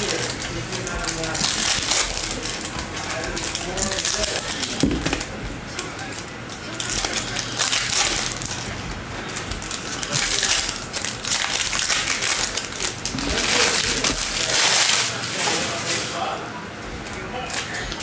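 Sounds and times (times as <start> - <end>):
foil wrapper tearing: 0.0 - 5.3, 5.9 - 16.3
foil wrapper crinkling: 0.0 - 16.4.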